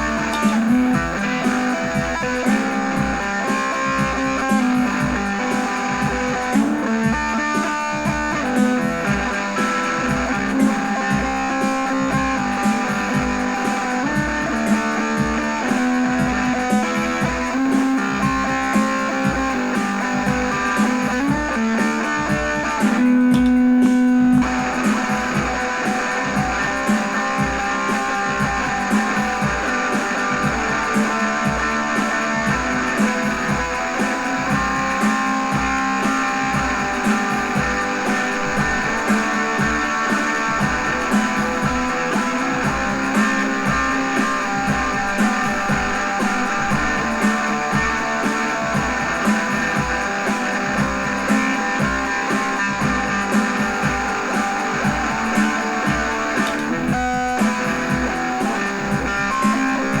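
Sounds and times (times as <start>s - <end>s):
electric guitar playing: 0.0s - 60.0s
steady drum beat: 0.0s - 60.0s.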